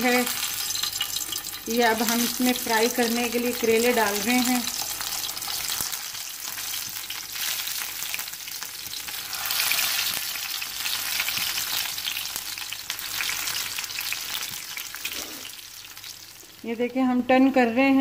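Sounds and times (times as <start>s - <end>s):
food sizzling in oil: 0.0s - 17.1s.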